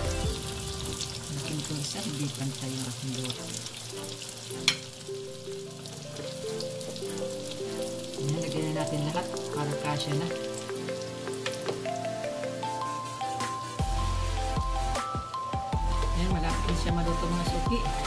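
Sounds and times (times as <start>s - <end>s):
oil sizzling and crackling: 0.0s - 18.0s
soft background music: 0.0s - 18.0s.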